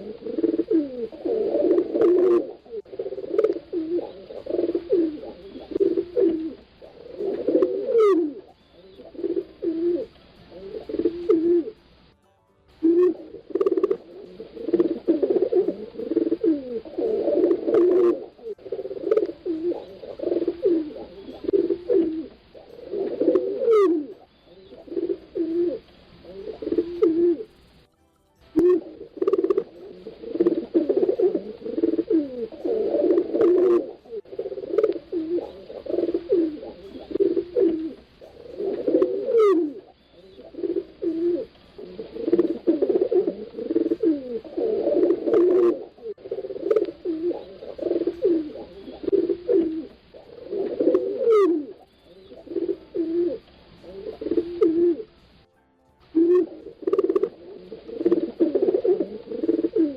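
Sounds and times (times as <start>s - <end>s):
pigeons cooing: 0.0s - 12.0s, 12.8s - 27.9s, 28.6s - 55.4s, 56.2s - 59.9s.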